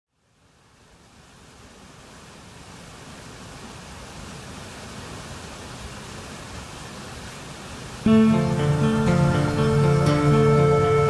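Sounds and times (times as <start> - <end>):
waterfall roaring: 0.4 - 11.0.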